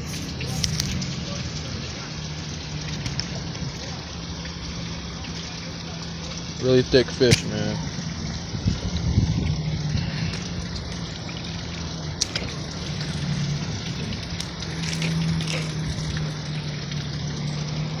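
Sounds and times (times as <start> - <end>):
rushing water-like noise: 0.0 - 18.0.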